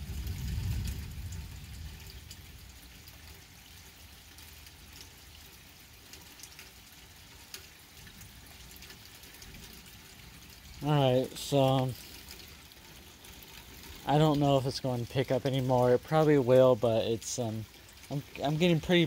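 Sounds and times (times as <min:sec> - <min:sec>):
drips: 0:00.0 - 0:19.0
light rain on wet pavement: 0:00.0 - 0:19.0.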